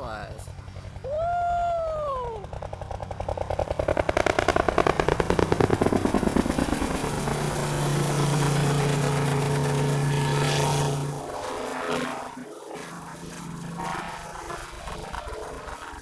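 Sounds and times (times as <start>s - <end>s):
helicopter engine drone: 0.0s - 16.0s
helicopter rotor beat: 0.0s - 16.0s.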